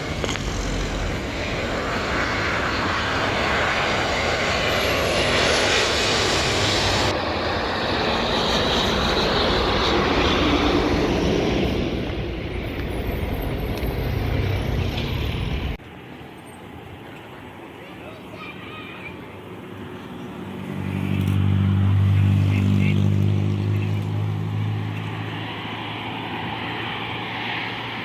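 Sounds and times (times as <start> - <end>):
airplane engines roaring: 0.0 - 28.0.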